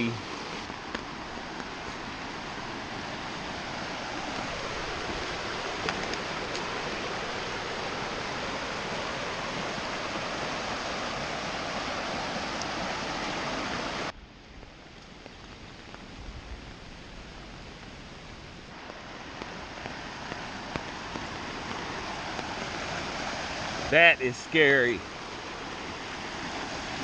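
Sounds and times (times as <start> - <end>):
floodwater rushing in creek: 0.0 - 27.0.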